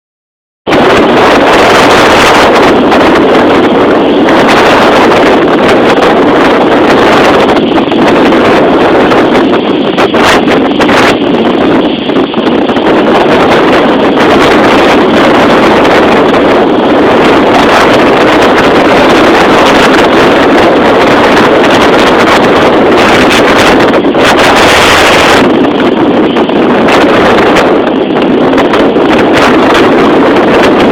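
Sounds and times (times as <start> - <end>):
wind buffeting microphone: 0.6 - 30.9
heavy surf: 0.7 - 30.9.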